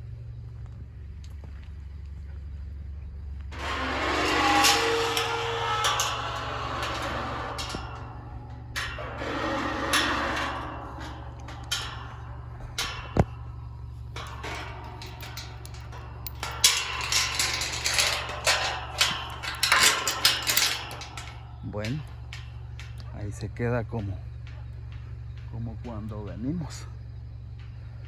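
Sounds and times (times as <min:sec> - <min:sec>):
metallic knocks of gate: 0:03.5 - 0:26.8
rattling clatter: 0:03.5 - 0:28.0
sharp ringing clank: 0:03.6 - 0:27.9.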